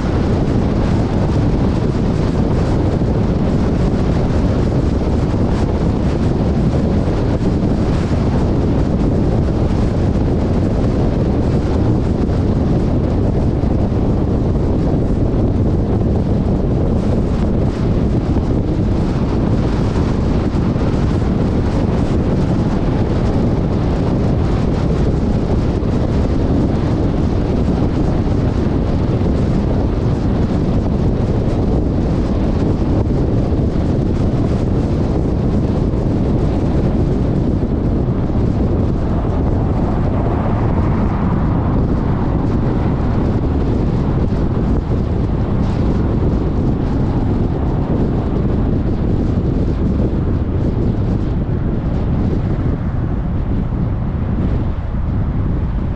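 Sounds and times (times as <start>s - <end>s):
moving vehicle noise: 0.0s - 55.9s
wind buffeting microphone: 0.0s - 55.9s.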